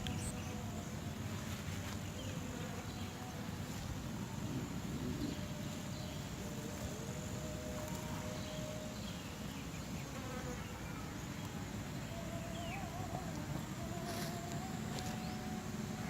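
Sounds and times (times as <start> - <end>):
flying insect buzzing: 0.0 - 16.0
low outdoor rumble: 0.0 - 16.0.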